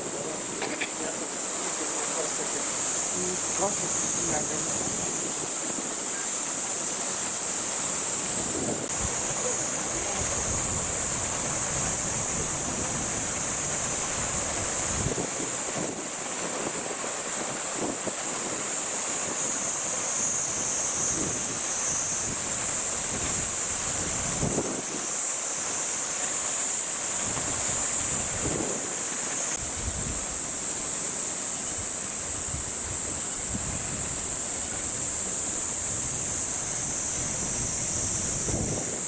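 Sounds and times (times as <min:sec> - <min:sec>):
wind rumbling on microphone: 0:00.0 - 0:07.0, 0:07.9 - 0:25.2, 0:27.1 - 0:30.7, 0:31.7 - 0:39.0
cicada chorus buzzing: 0:00.0 - 0:39.0.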